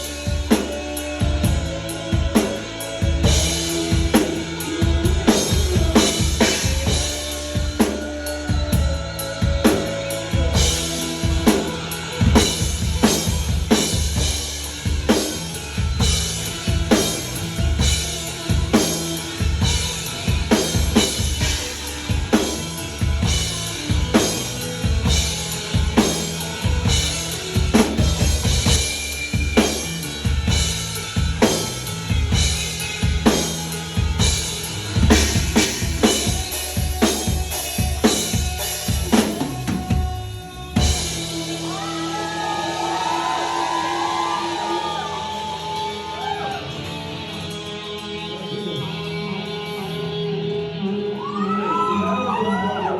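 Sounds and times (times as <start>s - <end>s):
drum kit playing rock beat: 0.0s - 50.8s
backing music track: 0.0s - 52.0s.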